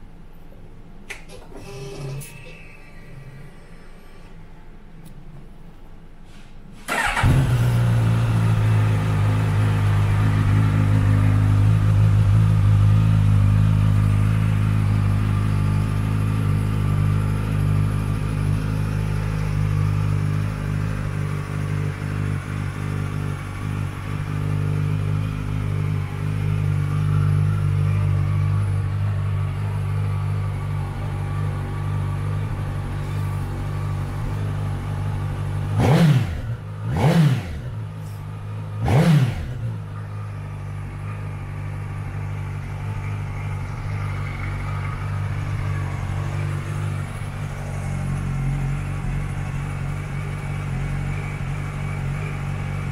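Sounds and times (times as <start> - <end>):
motorcycle engine idling: 6.9 - 52.9.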